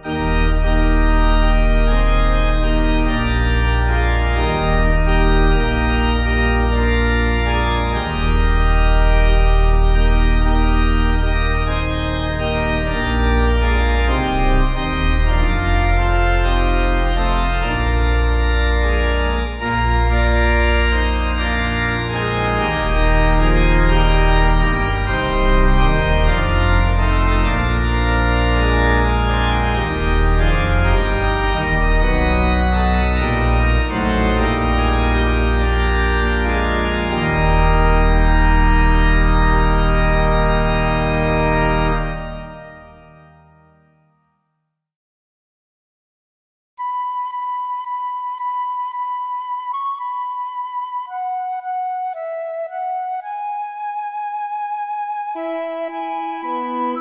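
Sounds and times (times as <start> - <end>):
organ playing slow chords: 0.0 - 44.1, 46.8 - 57.0.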